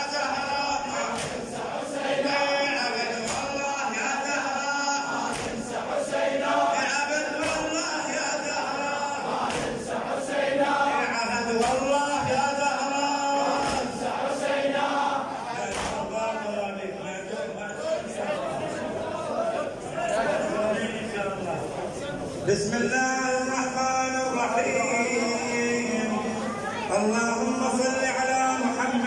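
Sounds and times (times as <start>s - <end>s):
man leading a chant: 0.0s - 1.6s, 2.2s - 5.7s, 6.5s - 9.7s, 10.6s - 14.2s, 15.2s - 21.7s, 22.4s - 29.0s
men chanting a lament: 0.0s - 21.5s, 22.4s - 29.0s.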